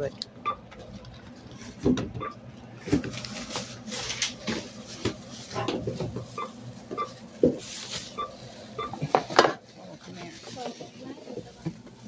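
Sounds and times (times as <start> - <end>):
plastic bags rustling: 1.1 - 1.8, 2.8 - 12.0.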